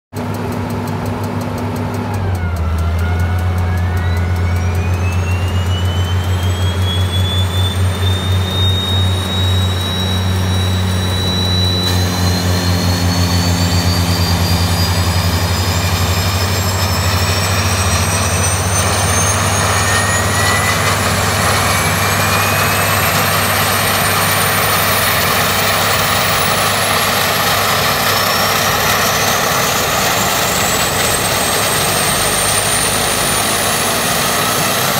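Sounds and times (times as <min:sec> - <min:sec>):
low engine drone: 0:00.1 - 0:34.9
turboprop engine whine rising: 0:00.1 - 0:34.9.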